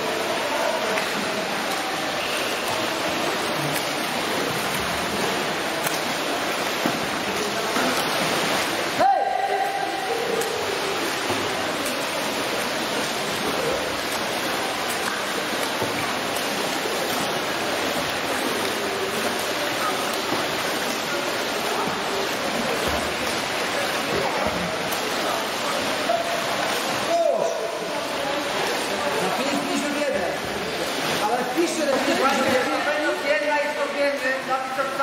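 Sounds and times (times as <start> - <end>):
swimmer splashing in a pool: 0.0 - 35.0.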